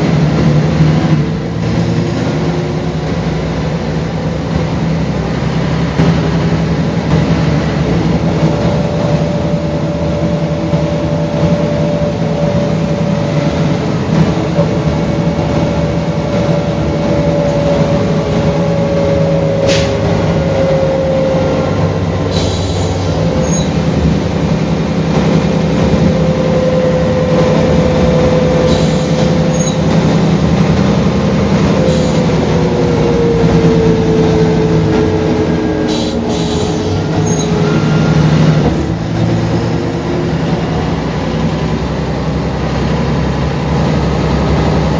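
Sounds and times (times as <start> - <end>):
bus engine drone with whine: 0.0 - 44.9.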